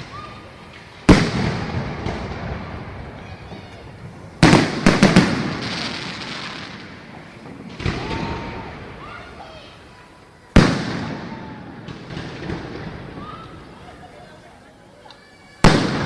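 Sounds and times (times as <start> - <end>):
fireworks bangs and cracks: 0.0 - 14.6, 15.4 - 16.0.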